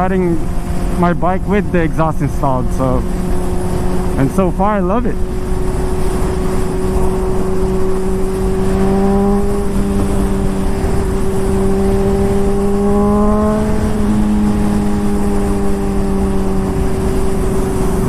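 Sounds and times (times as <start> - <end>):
motorcycle engine cruising: 0.0 - 18.0
wind rumbling on microphone: 0.0 - 18.0.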